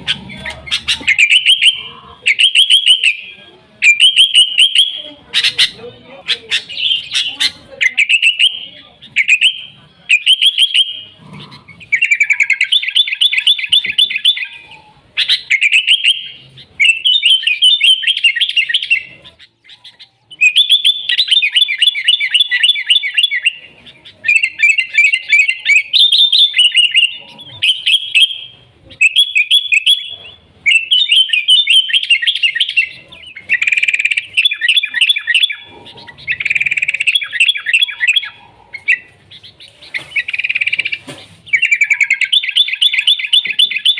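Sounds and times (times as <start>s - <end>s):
bird singing chirping phrases: 0.0s - 43.9s.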